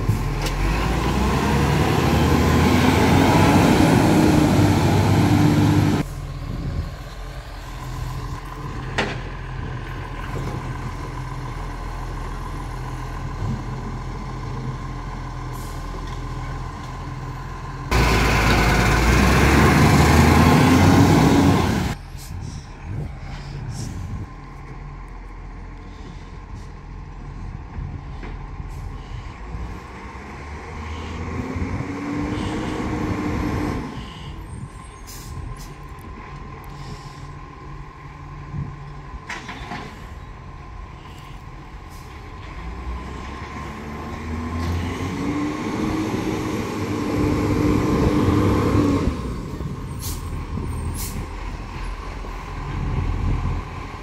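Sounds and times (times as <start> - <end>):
truck engine revving and idling: 0.0 - 54.0.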